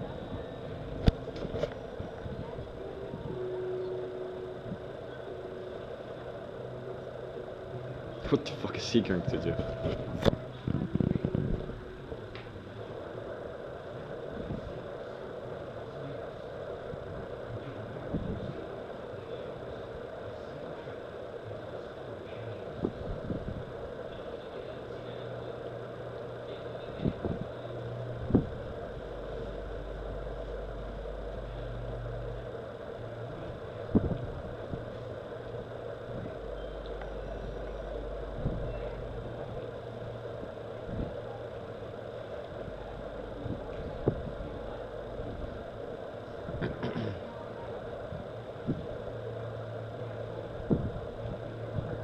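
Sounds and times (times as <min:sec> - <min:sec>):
mechanical hum: 0:00.0 - 0:52.0.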